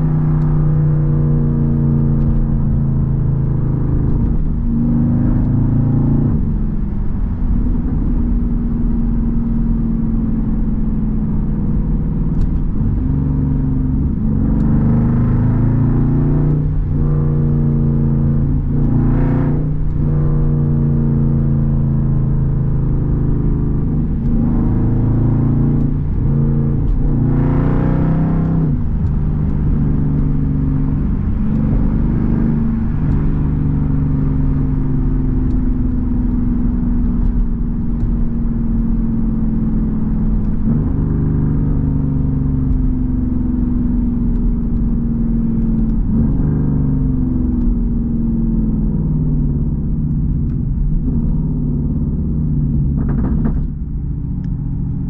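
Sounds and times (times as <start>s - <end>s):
v eight exhaust drone from cabin: 0.0s - 55.0s.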